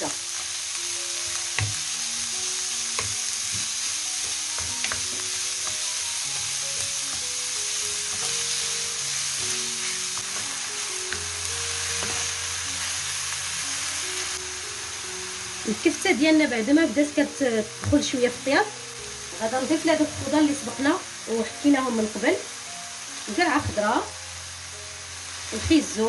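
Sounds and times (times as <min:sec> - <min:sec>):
meat sizzling in a frying pan: 0:00.0 - 0:26.0.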